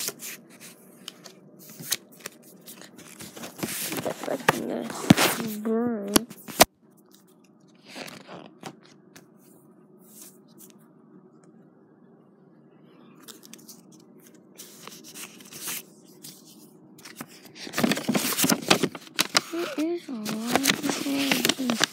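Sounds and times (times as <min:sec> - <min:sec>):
book pages rustling: 0:00.0 - 0:10.8, 0:13.2 - 0:21.9
faint steady hum: 0:00.0 - 0:21.9.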